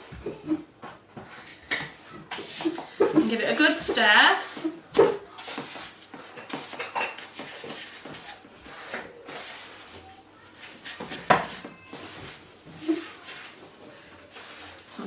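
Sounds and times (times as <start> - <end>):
spoon scraping bowl: 2.3 - 15.0.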